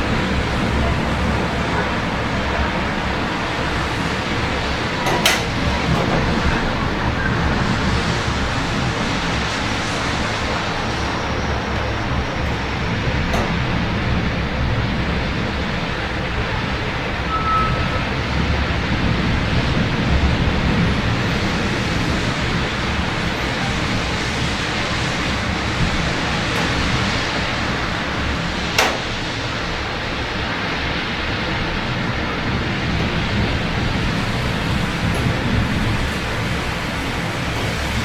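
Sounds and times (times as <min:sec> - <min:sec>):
low hum of city traffic: 0:00.0 - 0:38.0
rain hiss: 0:00.0 - 0:38.0.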